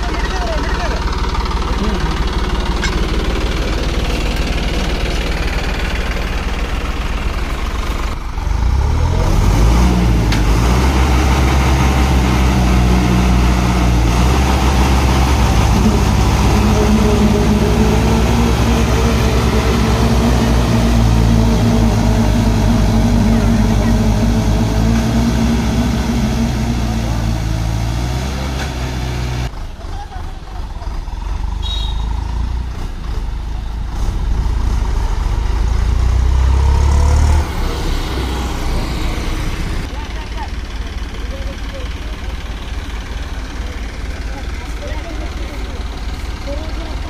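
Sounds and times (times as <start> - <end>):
tractor diesel engines running hard: 0.0 - 47.0.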